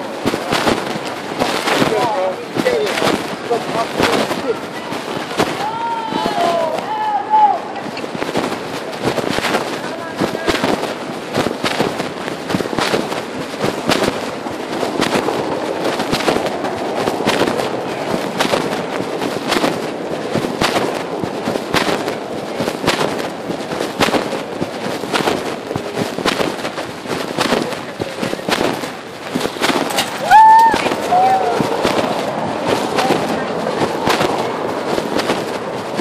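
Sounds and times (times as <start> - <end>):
knocks while walking: 0.0 - 5.6, 7.8 - 36.0
fabric rubbing on microphone: 0.0 - 36.0.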